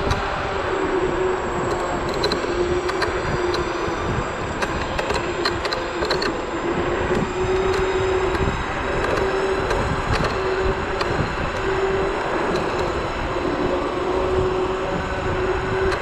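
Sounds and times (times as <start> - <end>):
electric motor whine: 0.0 - 16.0
wind and road rush: 0.0 - 16.0.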